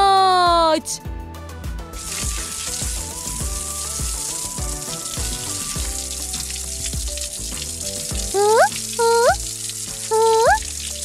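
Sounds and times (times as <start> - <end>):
light background music: 0.0 - 11.0
water spraying from hose: 2.0 - 11.0.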